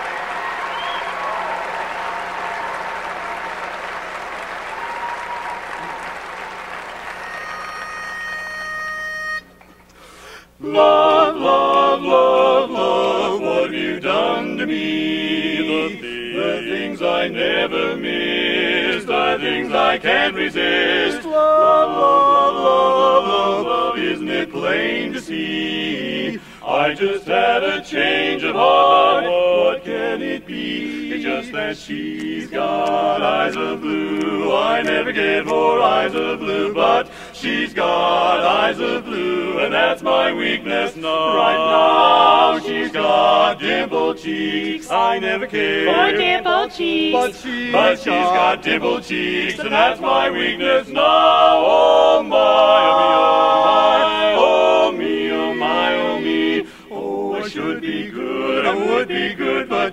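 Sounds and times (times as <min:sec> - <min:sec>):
men singing in close harmony: 0:10.6 - 0:59.9.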